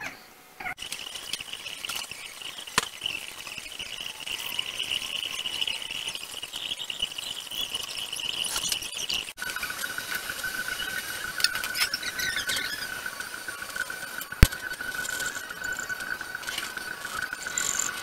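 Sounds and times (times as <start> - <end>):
thin high whine: 0.0 - 18.0.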